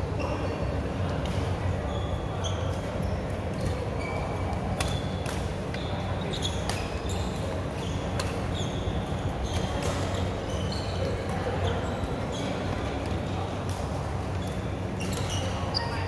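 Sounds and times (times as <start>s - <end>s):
shoes squeaking on court floor: 0.2s - 1.3s, 1.9s - 13.4s, 14.0s - 16.0s.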